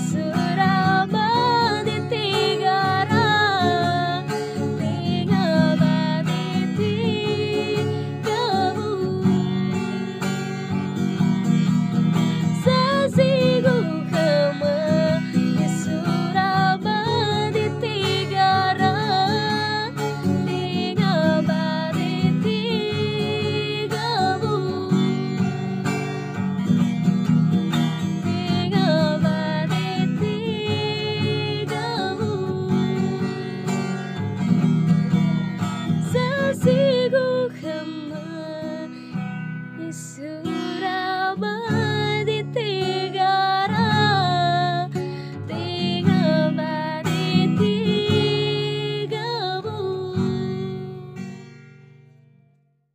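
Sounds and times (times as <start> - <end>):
woman singing: 0.0 - 51.4
acoustic guitar: 0.0 - 52.9.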